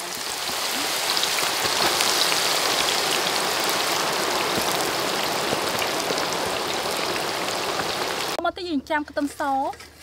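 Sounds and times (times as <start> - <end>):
deep-frying sizzle with crackles: 0.0 - 8.4.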